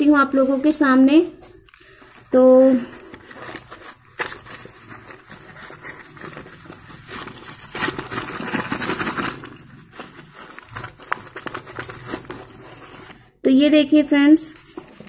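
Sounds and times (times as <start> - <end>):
cardboard packets rustling: 0.0 - 15.0.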